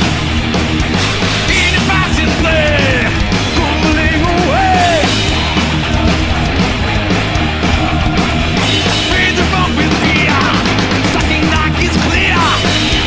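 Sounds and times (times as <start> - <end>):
live metal band playing: 0.0 - 13.0.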